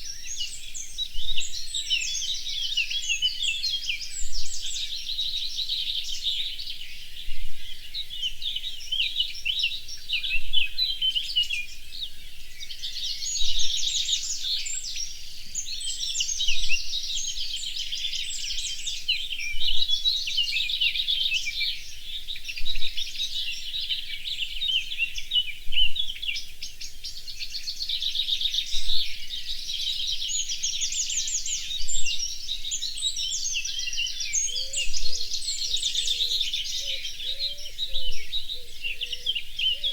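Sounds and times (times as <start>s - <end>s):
birds chirping and trilling: 0.0s - 39.9s
loud bird song phrase: 0.0s - 39.9s.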